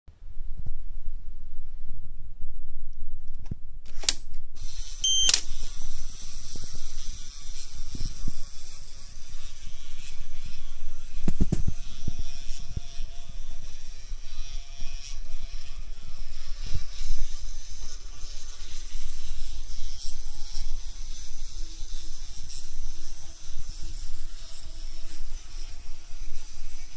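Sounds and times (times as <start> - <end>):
toy train motors whirring: 3.9 - 26.9.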